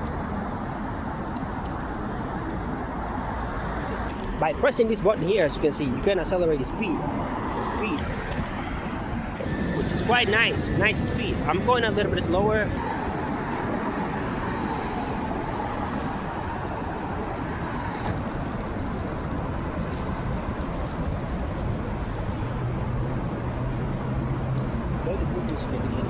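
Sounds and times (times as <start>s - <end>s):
road and traffic noise: 0.0s - 26.0s.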